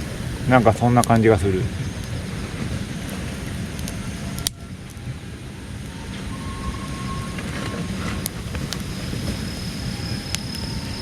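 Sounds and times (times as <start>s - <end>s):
wind on microphone: 0.0s - 11.0s
wood fire crackling: 0.0s - 11.0s.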